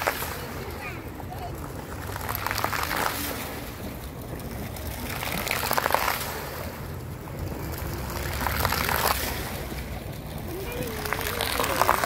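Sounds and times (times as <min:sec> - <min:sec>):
fountain water splashing into pool: 0:00.0 - 0:12.0.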